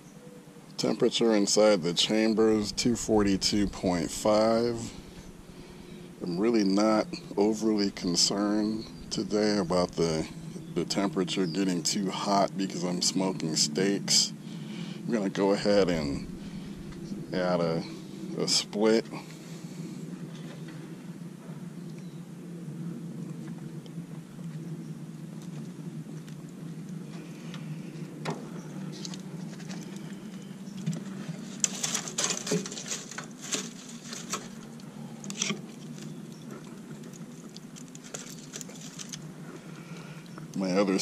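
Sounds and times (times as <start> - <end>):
low hum: 0.0 - 41.0.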